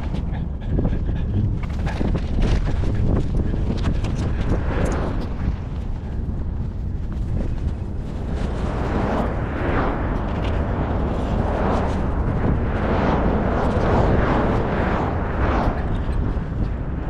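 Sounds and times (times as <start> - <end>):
skateboard wheels rolling on asphalt: 1.6 - 17.0.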